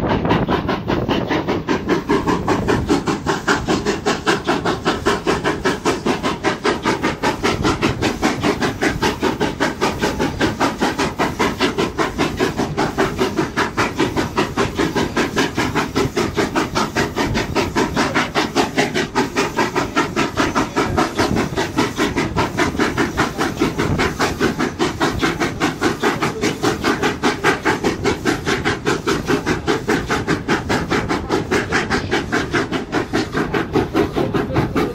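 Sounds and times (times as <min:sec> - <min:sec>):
steam locomotive exhaust chuffs: 0:00.0 - 0:34.9.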